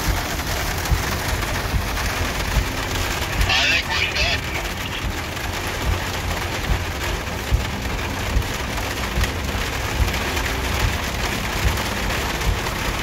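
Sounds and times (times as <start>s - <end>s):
heavy rain on a car roof: 0.0s - 13.0s.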